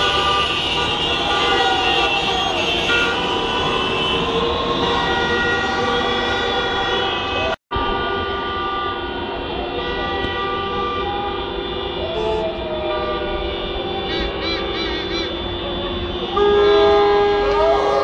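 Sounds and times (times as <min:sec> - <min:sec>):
many car horns honking: 0:00.0 - 0:18.0.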